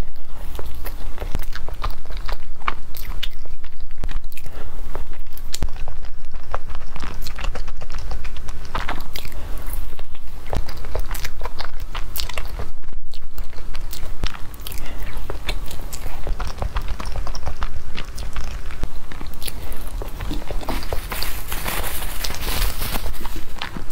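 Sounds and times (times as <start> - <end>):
chewing with wet mouth clicks: 0.0 - 21.2
soft crunches of pastry: 0.0 - 23.9.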